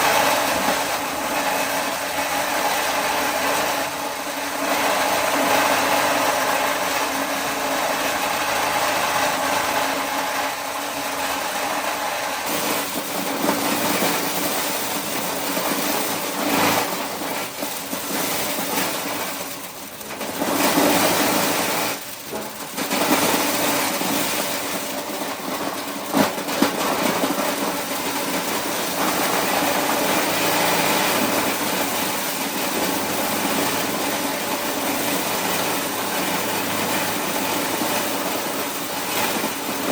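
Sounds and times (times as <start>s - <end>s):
corn shelling machine running: 0.0s - 39.9s.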